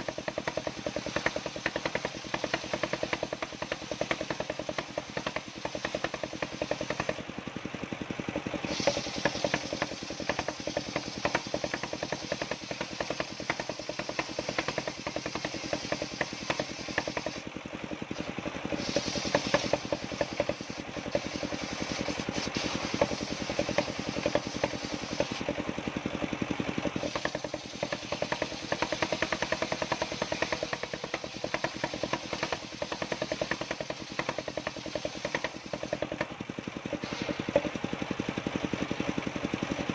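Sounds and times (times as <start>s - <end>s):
engine running with even pulsing: 0.0s - 39.9s.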